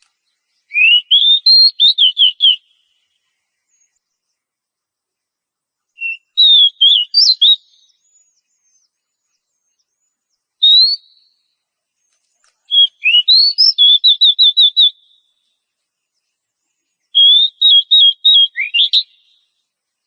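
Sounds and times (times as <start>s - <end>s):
bird singing whistled notes: 0.0s - 4.7s, 5.8s - 20.0s.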